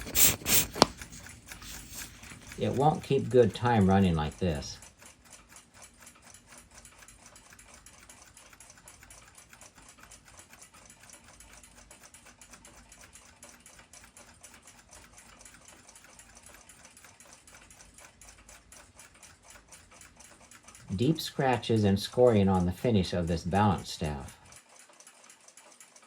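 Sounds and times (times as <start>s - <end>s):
clock ticking rapidly: 0.0s - 26.0s.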